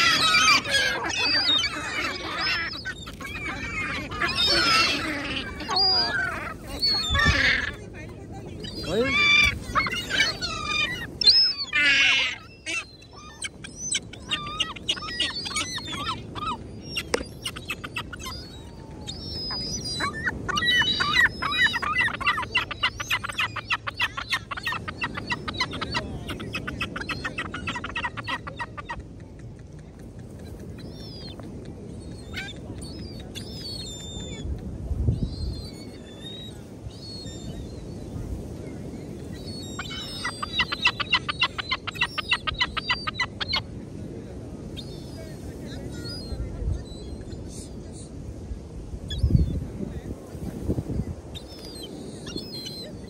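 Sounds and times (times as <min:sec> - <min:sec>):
gulls calling: 0:00.0 - 0:47.5.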